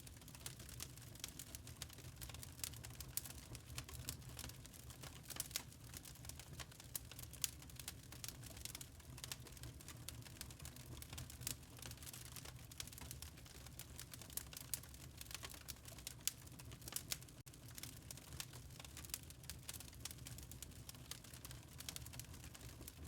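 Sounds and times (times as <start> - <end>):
log fire crackling: 0.0 - 23.0.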